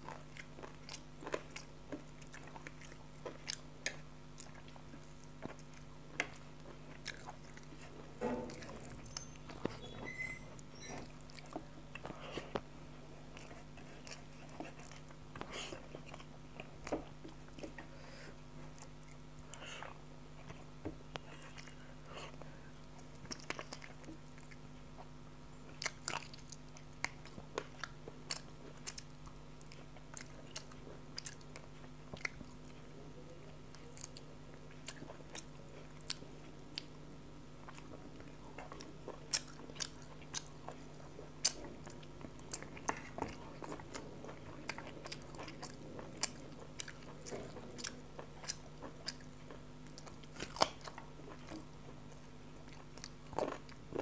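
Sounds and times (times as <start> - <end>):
chewing and wet smacks: 0.0 - 32.9, 33.5 - 54.0
faint steady hum: 0.0 - 54.0.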